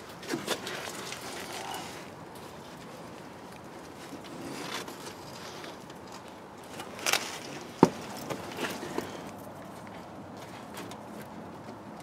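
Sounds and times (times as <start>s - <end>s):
wiring loom rustling and scraping: 0.0s - 11.3s.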